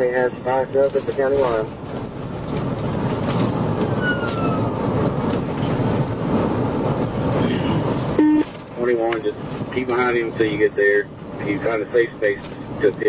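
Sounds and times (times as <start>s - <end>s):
road and wind noise in car: 0.0s - 13.0s.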